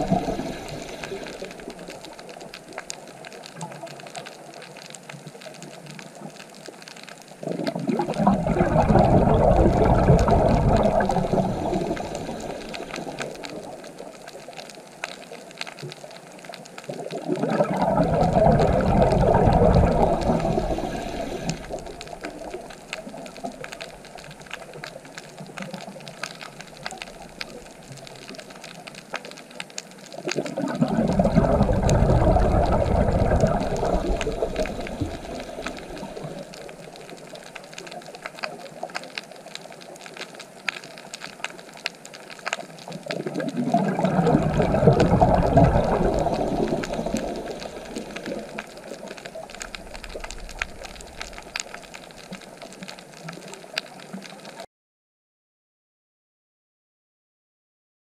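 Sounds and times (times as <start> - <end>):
steady hiss: 0.0 - 7.4, 9.0 - 16.8, 18.0 - 30.3, 32.3 - 43.1, 44.2 - 54.0
faint clicks: 0.0 - 54.7
rushing water: 0.0 - 54.7.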